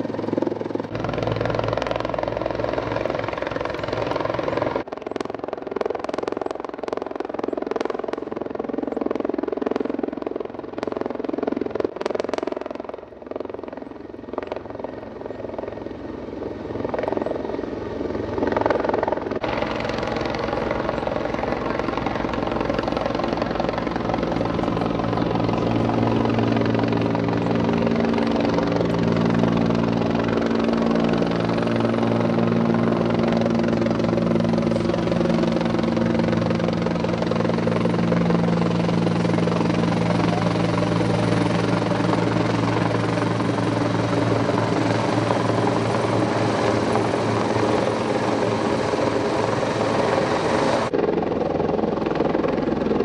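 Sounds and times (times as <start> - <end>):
helicopter rotor and turbines: 0.0 - 53.0.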